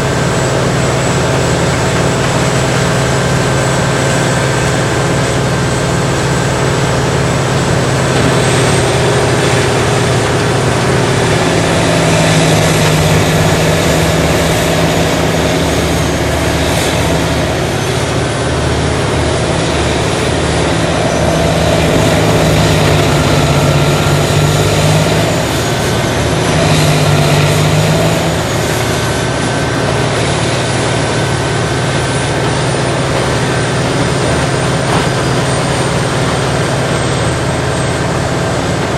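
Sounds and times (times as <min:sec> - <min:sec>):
grinder machine grinding brush: 0:00.0 - 0:38.9.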